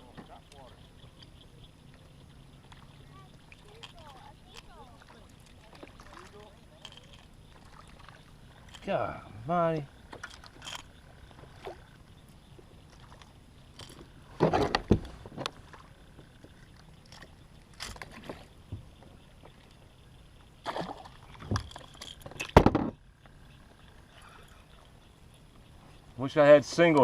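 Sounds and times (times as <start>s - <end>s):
water splashing around kayak: 0.0s - 27.0s.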